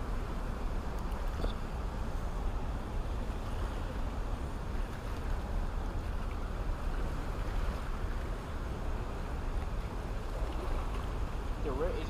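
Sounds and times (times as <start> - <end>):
water roaring through dam: 0.0 - 12.0
wind rumbling on microphone: 0.0 - 12.0.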